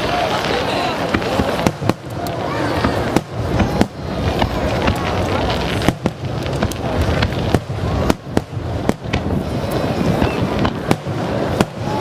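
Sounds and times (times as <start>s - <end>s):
crowd chatter: 0.0s - 12.0s
fireworks bangs and crackles: 0.0s - 12.0s.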